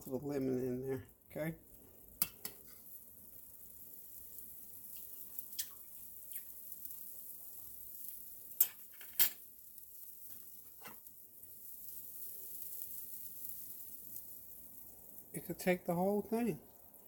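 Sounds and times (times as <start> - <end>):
sauce bubbling in a skillet: 0.0 - 17.0.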